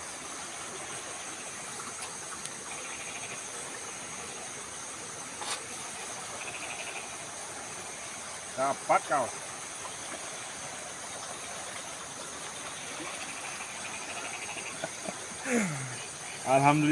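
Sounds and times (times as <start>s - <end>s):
crickets chirping in trills: 0.0s - 16.9s
high insect hiss: 0.0s - 16.9s.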